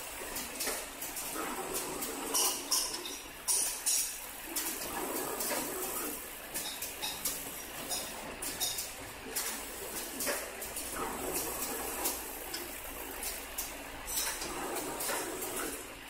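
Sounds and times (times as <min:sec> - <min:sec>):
machine running noise: 0:00.0 - 0:16.0.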